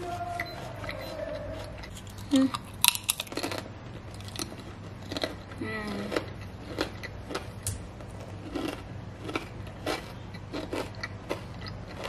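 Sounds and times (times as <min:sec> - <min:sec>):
person chewing crisp cracker: 0:00.0 - 0:12.0.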